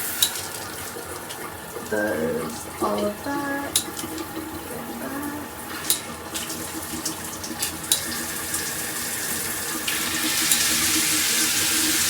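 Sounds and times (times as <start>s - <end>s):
water spraying from shower head: 0.0s - 0.8s, 1.8s - 12.0s.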